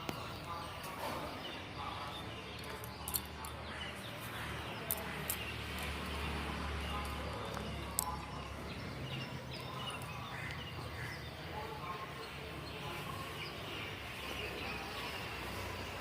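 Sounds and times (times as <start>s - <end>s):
birds chirping: 0.0s - 16.0s
faint distant voices: 0.0s - 16.0s.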